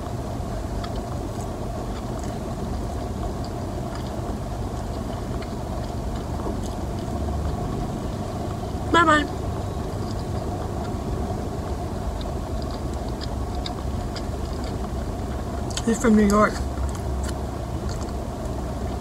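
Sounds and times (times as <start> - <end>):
car cabin hum: 0.0 - 19.0
person chewing food: 0.5 - 8.8, 9.4 - 19.0.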